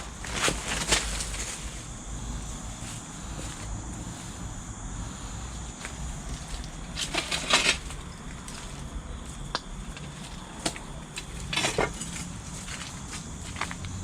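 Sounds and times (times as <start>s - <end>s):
footsteps crunching over debris: 0.0s - 3.8s, 5.6s - 14.0s.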